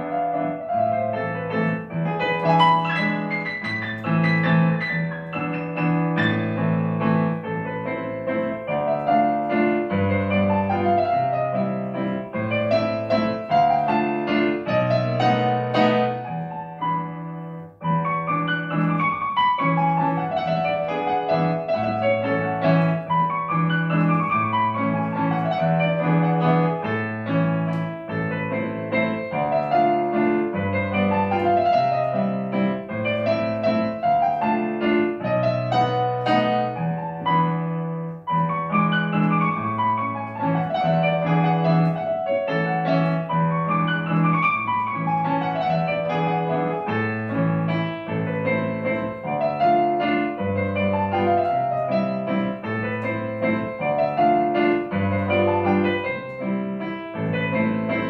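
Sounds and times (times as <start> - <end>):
solo classical piano: 0.0 - 58.0.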